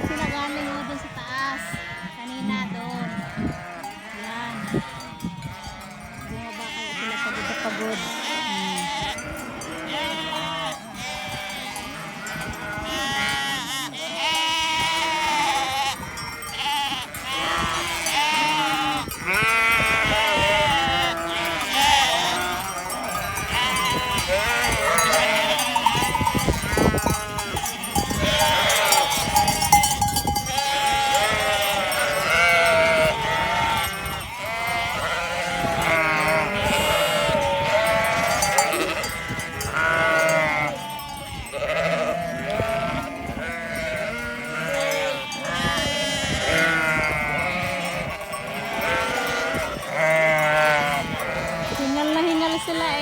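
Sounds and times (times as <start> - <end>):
flock of sheep bleating: 0.0 - 53.0
bells clinking: 0.1 - 53.0.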